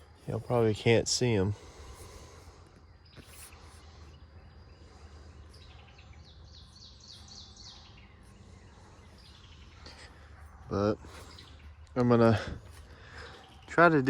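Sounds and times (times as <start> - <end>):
bird singing faintly: 0.0 - 14.0
low outdoor hum: 0.0 - 14.0.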